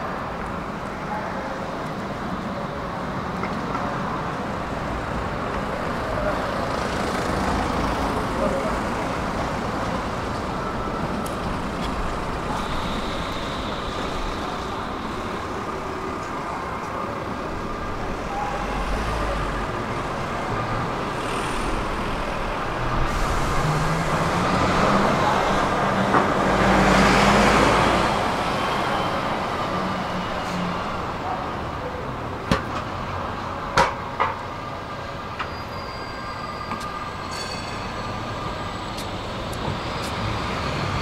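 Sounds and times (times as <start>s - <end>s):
tram rolling rumble: 0.0s - 41.0s.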